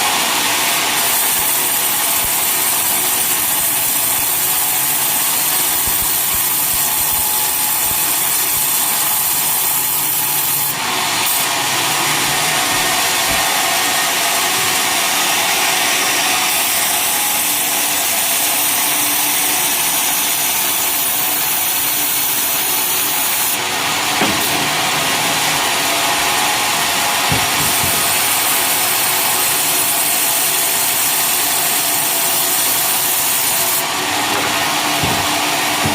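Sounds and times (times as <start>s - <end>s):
sawmill blade sawing log: 0.0s - 35.9s.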